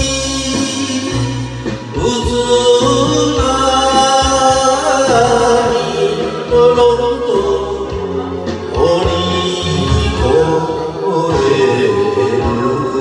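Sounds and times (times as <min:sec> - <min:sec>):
man singing into karaoke microphone: 0:00.0 - 0:13.0
recorded backing track: 0:00.0 - 0:13.0.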